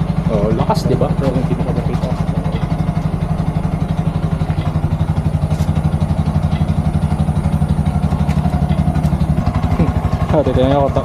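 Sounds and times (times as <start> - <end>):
auto-rickshaw engine idling: 0.0 - 11.0.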